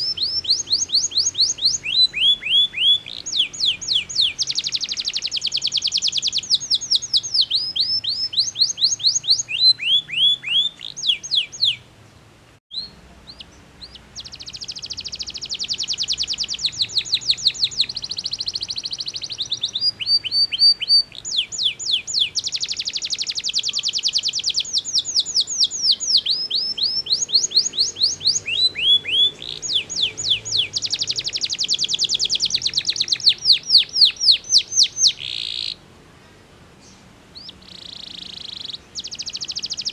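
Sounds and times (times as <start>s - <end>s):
canary singing trills: 0.0s - 35.8s, 36.8s - 39.9s.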